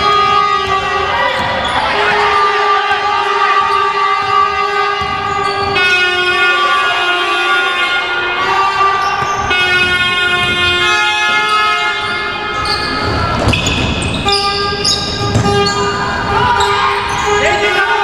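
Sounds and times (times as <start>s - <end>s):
long overlapping horn tones: 0.0s - 18.0s.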